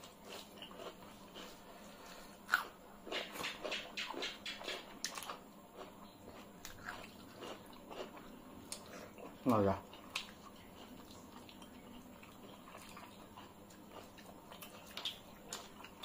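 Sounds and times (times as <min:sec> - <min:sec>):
chewing and lip smacks: 0:02.5 - 0:16.0.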